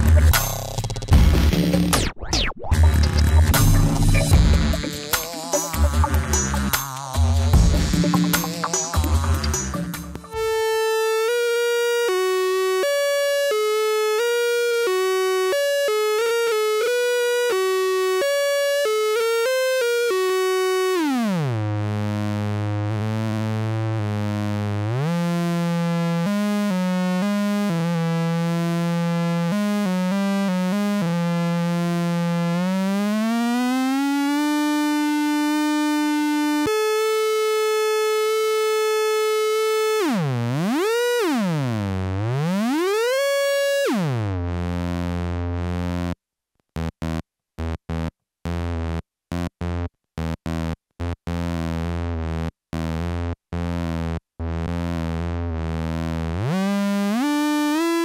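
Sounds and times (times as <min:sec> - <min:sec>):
buzzy square-wave synthesizer: 0:00.0 - 0:46.2, 0:46.8 - 0:58.0.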